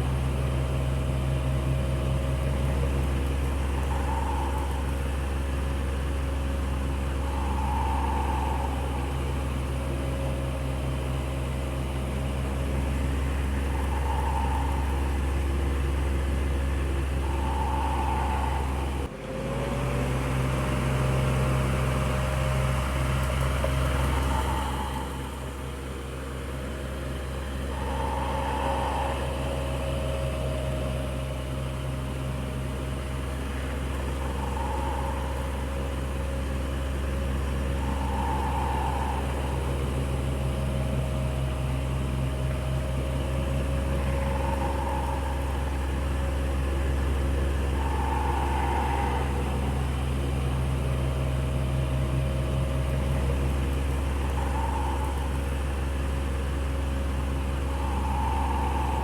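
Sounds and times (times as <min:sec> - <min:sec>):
electric fan humming: 0:00.0 - 0:19.1, 0:21.2 - 0:59.0.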